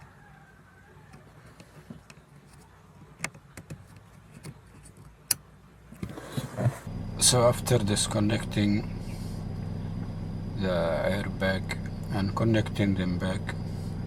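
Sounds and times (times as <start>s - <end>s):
low steady hum: 2.0s - 14.0s.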